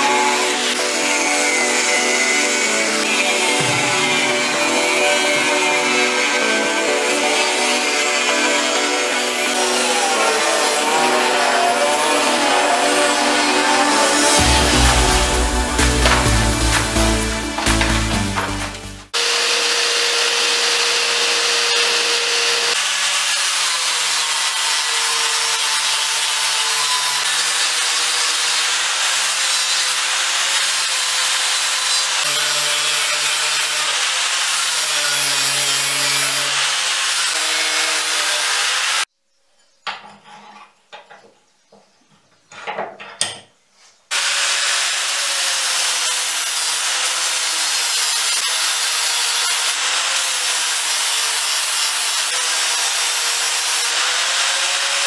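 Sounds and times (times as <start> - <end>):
angle grinder on steel: 0.0 - 39.1, 44.1 - 55.0
belt file grinding steel: 0.0 - 39.1, 44.2 - 55.0.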